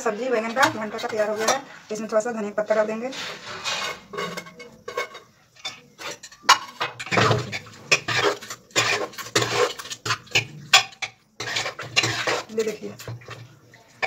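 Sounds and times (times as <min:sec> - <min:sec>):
spoon stirring and scraping curry: 0:00.0 - 0:01.9, 0:03.0 - 0:14.0.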